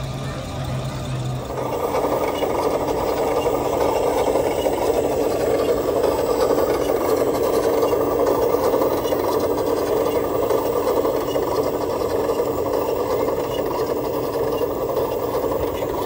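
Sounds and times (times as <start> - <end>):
small motor buzzing: 0.7 - 16.0.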